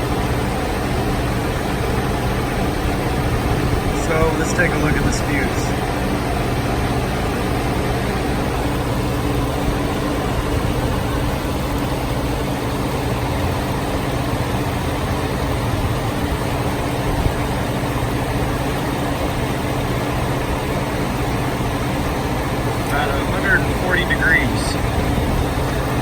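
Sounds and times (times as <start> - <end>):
pickup engine idling: 0.0 - 26.0.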